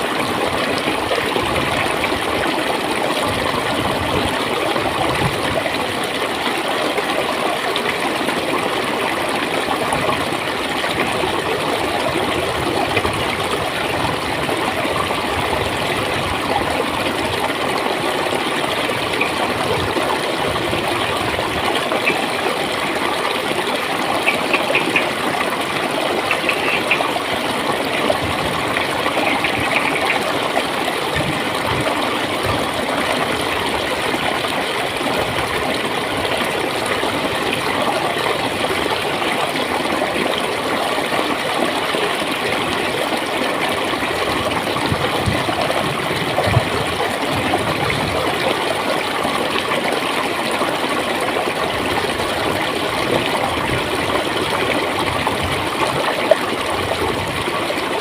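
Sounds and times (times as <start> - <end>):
shallow stream gurgling: 0.0 - 58.0.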